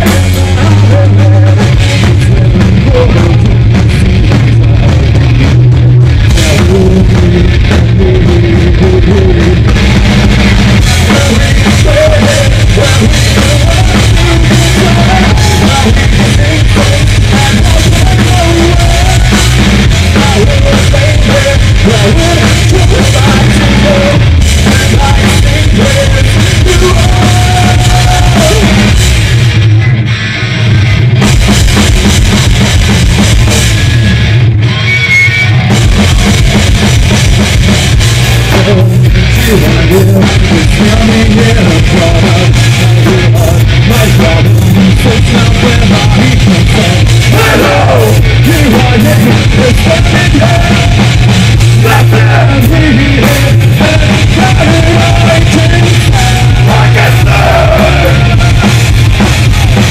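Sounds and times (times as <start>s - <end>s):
man singing: 0.0s - 5.7s, 6.3s - 9.9s, 10.8s - 29.0s, 38.4s - 58.8s
drum kit: 0.0s - 59.9s
electric guitar: 0.0s - 59.9s.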